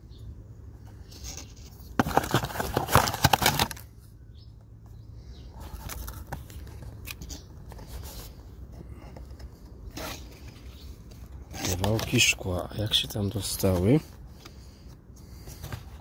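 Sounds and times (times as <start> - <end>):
cardboard box rustling: 0.8 - 3.9, 5.5 - 12.6, 13.3 - 16.0.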